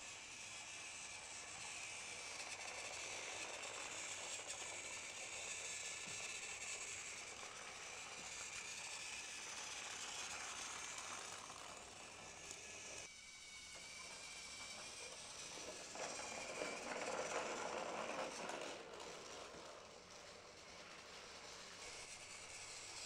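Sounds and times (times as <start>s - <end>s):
toy train motors whirring: 0.0s - 23.0s.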